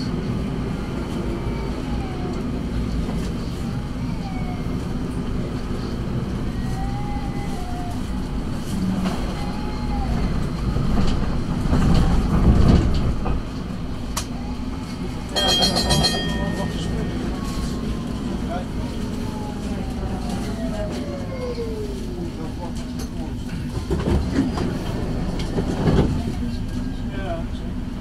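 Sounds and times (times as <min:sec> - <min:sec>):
tram rumbling: 0:00.0 - 0:28.0.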